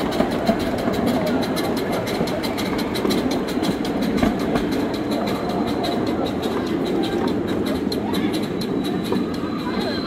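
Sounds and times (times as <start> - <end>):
miniature steam train clattering: 0.0 - 10.0.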